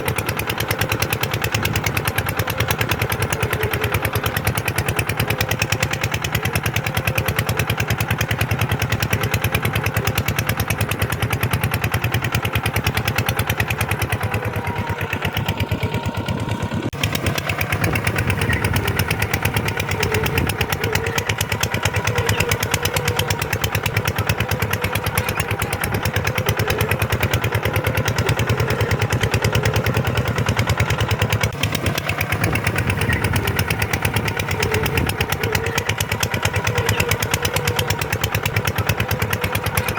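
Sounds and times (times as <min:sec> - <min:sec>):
tractor diesel engine chugging: 0:00.0 - 0:39.9.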